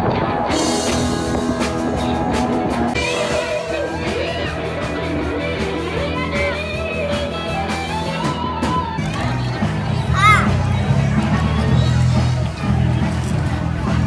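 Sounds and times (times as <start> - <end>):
live blues-rock band: 0.0 - 14.0.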